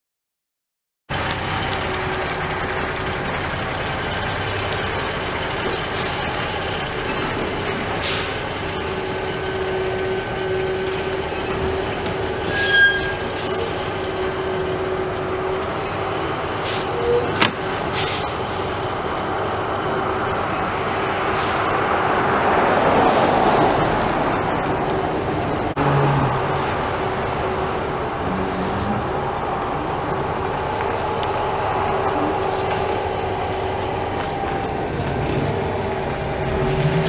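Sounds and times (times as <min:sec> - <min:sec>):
truck engine running: 0:01.1 - 0:37.0.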